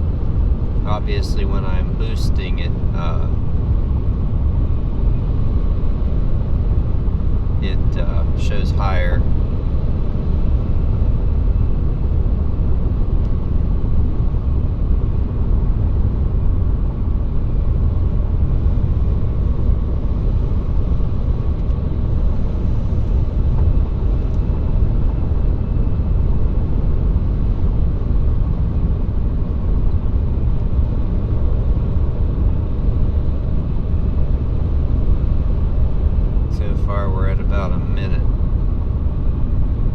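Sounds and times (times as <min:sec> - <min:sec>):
car engine rumble inside cabin: 0:00.0 - 0:39.9
road noise: 0:00.0 - 0:39.9.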